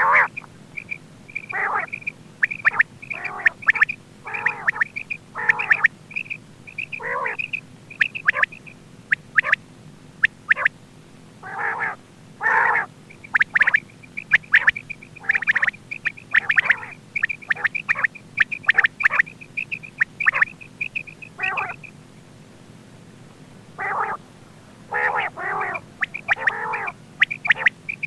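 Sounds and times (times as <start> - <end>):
quail clicking calls: 0.0 - 9.6, 10.2 - 10.8, 11.4 - 22.0, 23.8 - 24.2, 24.9 - 28.0
quail piping calls: 0.0 - 9.6, 10.2 - 10.8, 11.4 - 22.0, 23.8 - 24.2, 24.9 - 28.0
quail raspy calls: 0.0 - 9.6, 10.2 - 10.8, 11.4 - 22.0, 23.7 - 24.2, 24.8 - 28.0.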